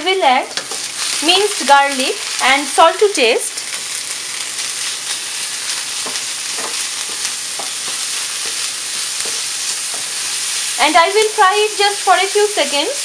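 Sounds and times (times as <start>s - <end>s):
onion and garlic sizzling in oil: 0.0s - 13.0s.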